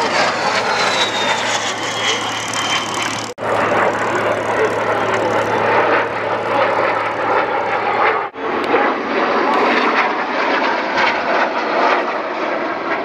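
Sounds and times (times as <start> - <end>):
formation of jets roaring: 0.0 - 13.0
jet aircraft roar: 0.0 - 13.0.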